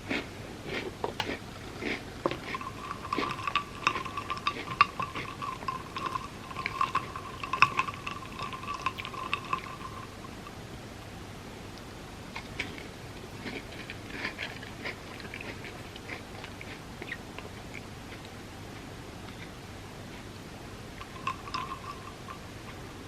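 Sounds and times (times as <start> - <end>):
wet chewing and mouth clicks: 0.1 - 10.5, 11.8 - 20.4, 21.0 - 23.0.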